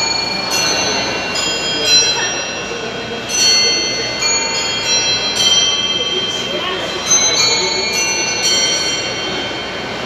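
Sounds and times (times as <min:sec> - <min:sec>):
clock chiming a tune on bells: 0:00.0 - 0:10.0.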